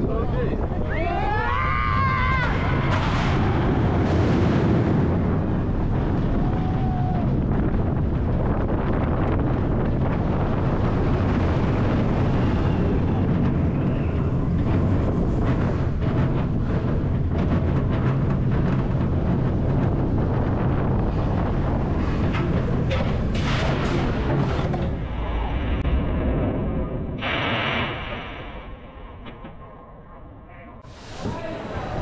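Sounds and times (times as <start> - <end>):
wind rushing over microphone: 0.0 - 28.9, 30.8 - 32.0
roller coaster wheels rumbling: 0.0 - 32.0.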